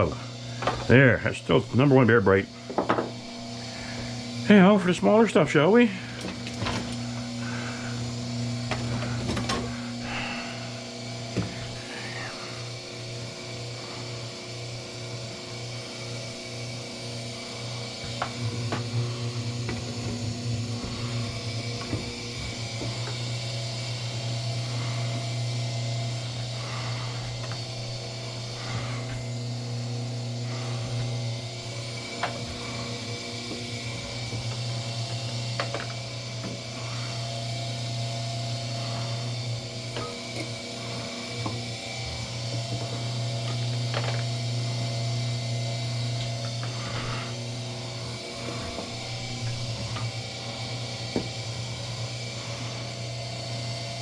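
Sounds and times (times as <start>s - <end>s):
wire stripping machine humming: 0.0s - 54.0s.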